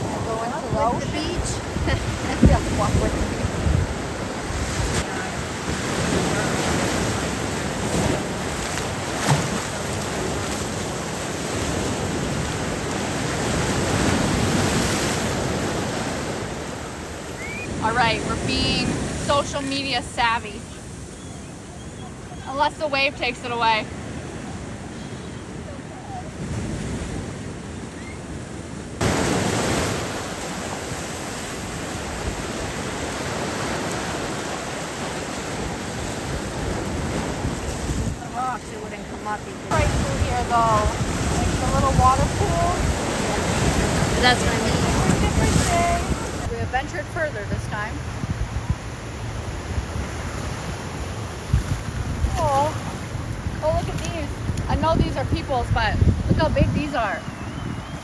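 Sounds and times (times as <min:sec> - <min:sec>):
ocean surf washing onto beach: 0:00.0 - 0:58.0
wind buffeting microphone: 0:00.0 - 0:58.0.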